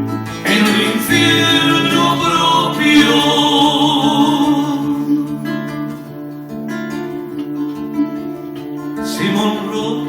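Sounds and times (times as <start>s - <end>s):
acoustic guitar strummed and plucked: 0.0s - 10.0s.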